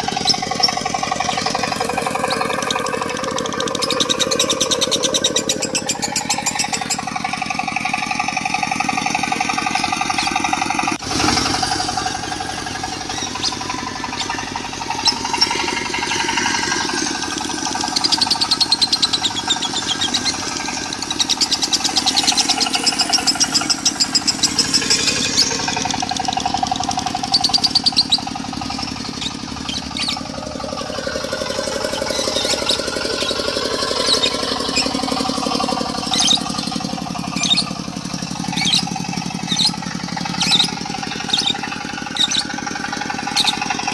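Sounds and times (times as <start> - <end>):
lovebird chattering trills: 0.0 - 11.0, 11.6 - 43.9
diesel engine running: 0.0 - 43.9.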